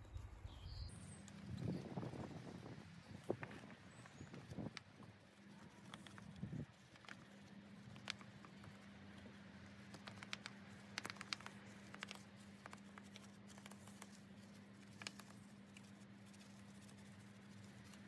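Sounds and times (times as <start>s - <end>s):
low steady hum: 0.0s - 18.0s
wet clicks and squelches: 3.5s - 18.0s.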